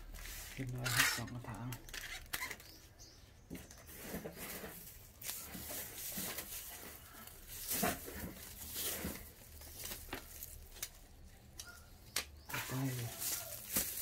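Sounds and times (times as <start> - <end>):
packing materials rustling: 0.0 - 2.8, 3.6 - 14.0.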